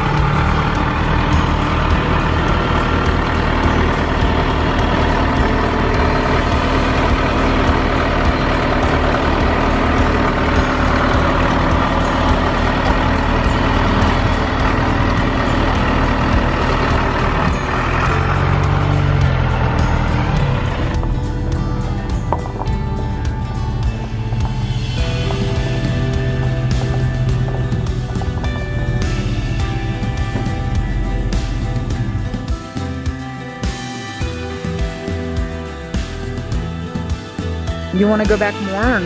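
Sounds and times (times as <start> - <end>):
truck engine and road noise: 0.0 - 39.0.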